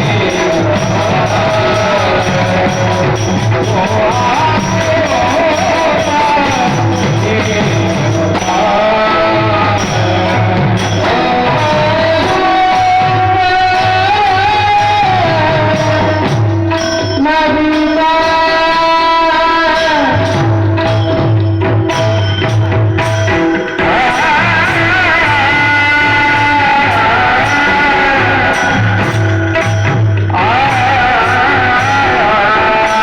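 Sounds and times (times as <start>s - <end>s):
drum strokes: 0.0s - 33.0s
man singing devotional song: 0.0s - 33.0s.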